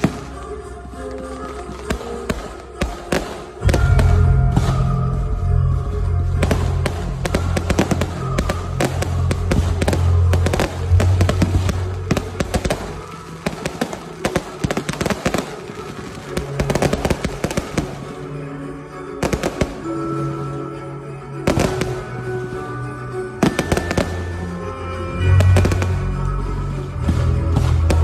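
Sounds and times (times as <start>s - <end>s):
fireworks bangs and crackles: 0.0s - 28.0s
music with deep bass: 0.0s - 28.0s.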